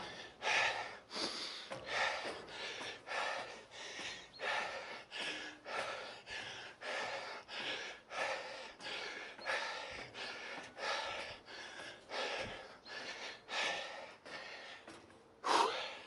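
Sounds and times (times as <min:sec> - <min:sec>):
person panting hard: 0:00.0 - 0:16.0.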